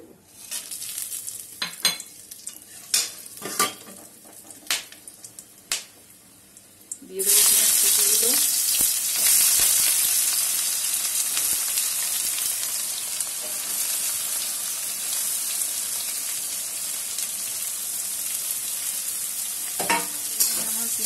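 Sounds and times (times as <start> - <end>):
onions sizzling in oil: 0.3 - 21.0.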